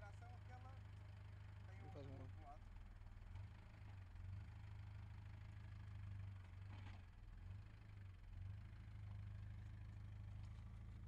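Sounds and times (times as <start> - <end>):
diesel engine rumbling at low revs: 0.0 - 11.0.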